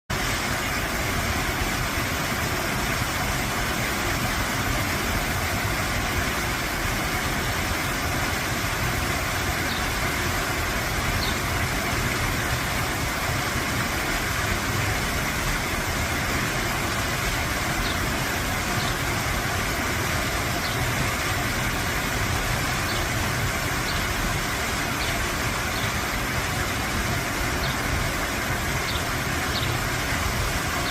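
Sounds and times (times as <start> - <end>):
waterfall rushing and splashing: 0.1 - 30.9.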